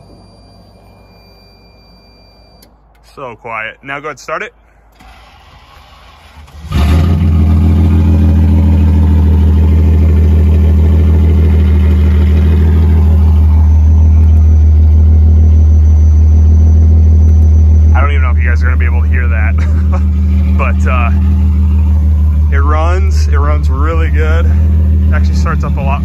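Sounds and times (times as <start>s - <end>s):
car engine starting and idling: 0.0s - 26.0s.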